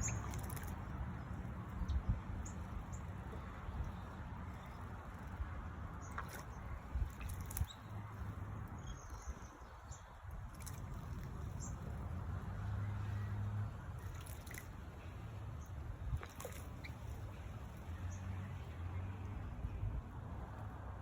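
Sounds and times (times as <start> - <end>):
birds chirping: 0.0 - 20.6
water splashes and drips: 0.0 - 20.8.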